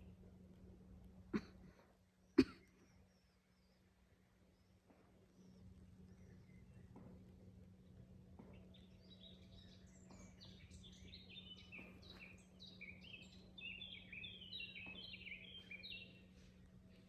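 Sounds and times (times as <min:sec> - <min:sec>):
small songbirds chirping: 0:02.1 - 0:17.0.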